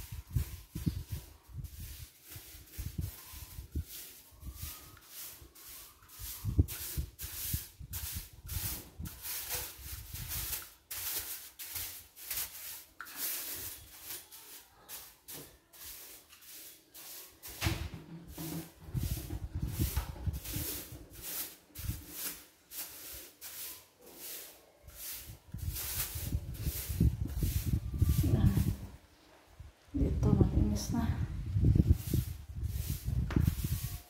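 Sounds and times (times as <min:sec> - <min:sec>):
broom sweeping tile floor: 0:00.0 - 0:34.0.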